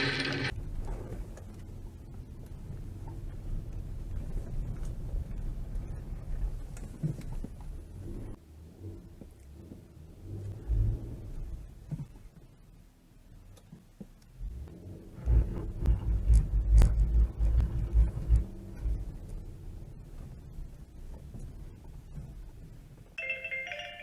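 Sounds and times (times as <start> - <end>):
vehicle rumbling over snow: 0.0 - 12.3, 14.4 - 23.2.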